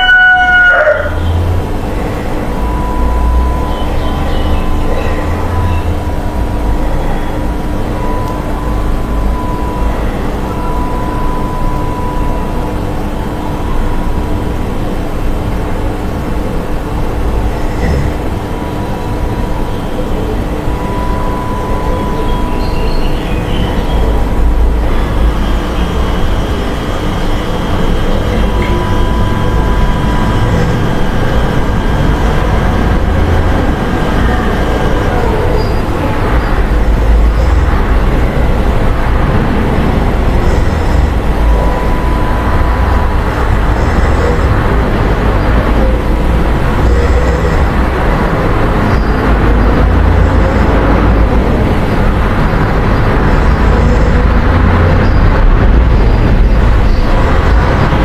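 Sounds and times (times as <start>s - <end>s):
vehicle low rumble: 0.7s - 58.0s
faint thin whining tones: 1.2s - 51.9s.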